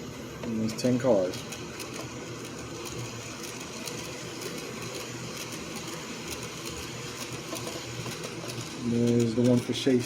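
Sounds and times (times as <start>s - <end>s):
model train hum and rumble: 0.0s - 10.0s.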